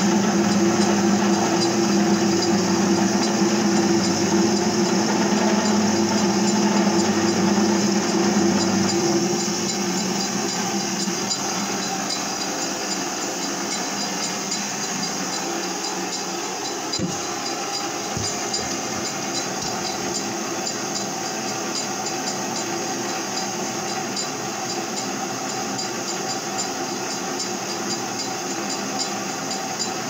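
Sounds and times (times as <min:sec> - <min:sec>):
metal lathe whine and hum: 0:00.0 - 0:30.0.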